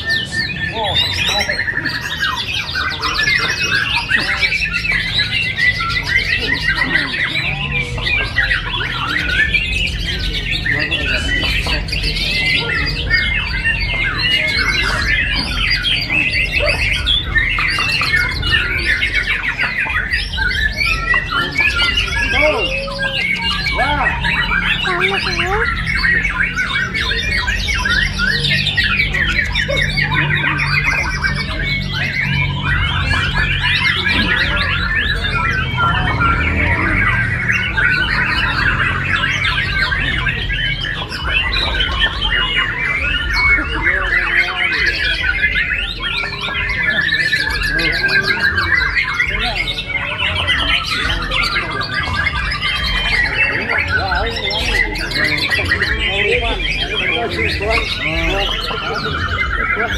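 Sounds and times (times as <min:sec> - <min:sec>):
caged songbirds chorus: 0:00.0 - 0:59.9.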